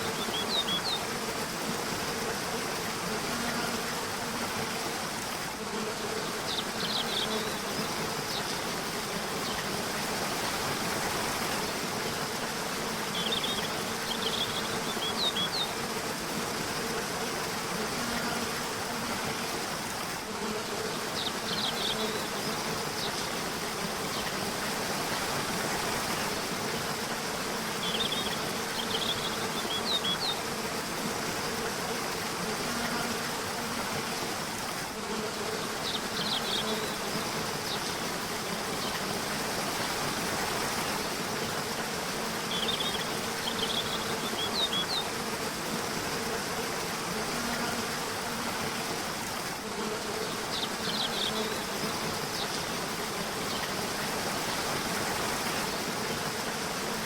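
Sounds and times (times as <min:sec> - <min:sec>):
low insect buzz: 0:00.0 - 0:57.0.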